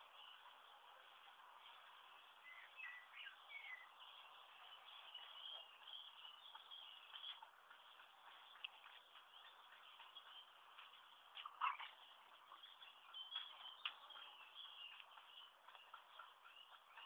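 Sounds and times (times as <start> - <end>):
faint bird chirps: 0.0 - 7.6, 8.3 - 17.0
faint outdoor hiss: 0.0 - 17.0.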